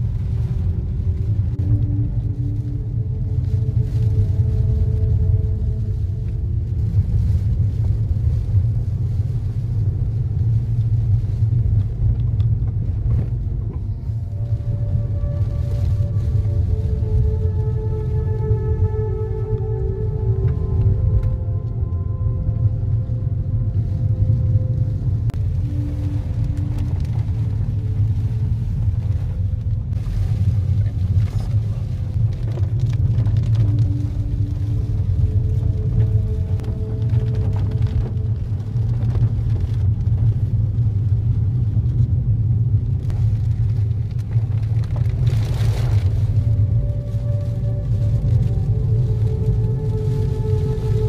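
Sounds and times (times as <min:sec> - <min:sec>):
car cabin road rumble: 0:00.0 - 0:51.0.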